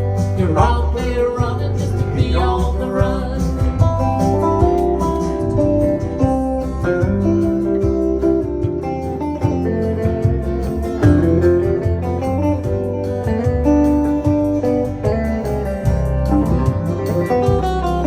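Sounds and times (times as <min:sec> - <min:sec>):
bass: 0:00.0 - 0:18.0
guitar melody: 0:00.0 - 0:18.0
steady drum beat: 0:00.0 - 0:18.0.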